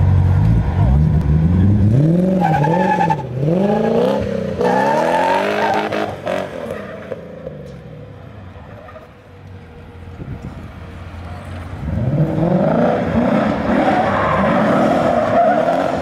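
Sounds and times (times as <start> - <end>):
car engine revving: 0.0 - 7.8, 10.4 - 16.0.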